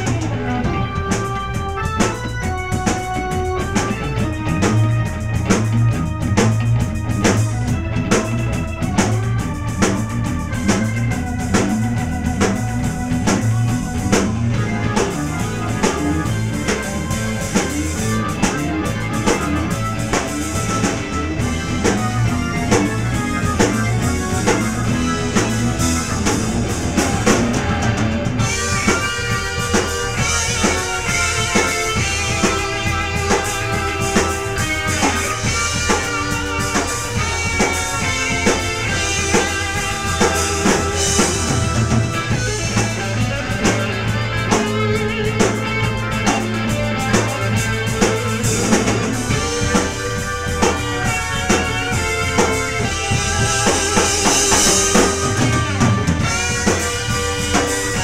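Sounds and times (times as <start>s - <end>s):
bass: 0.0s - 58.0s
drum kit: 0.0s - 58.0s
electric guitar: 0.0s - 58.0s
organ: 0.0s - 58.0s.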